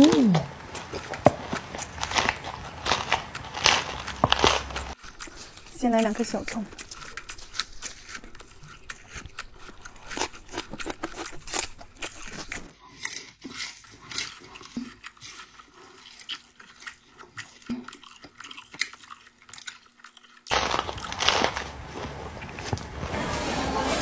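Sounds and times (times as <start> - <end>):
crunching raw vegetables: 0.0 - 23.1.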